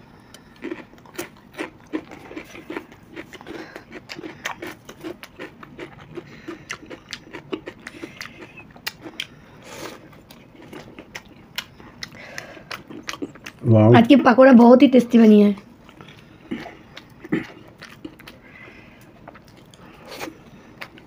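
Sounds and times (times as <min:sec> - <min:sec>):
chewing: 0:00.2 - 0:13.7, 0:15.6 - 0:21.0.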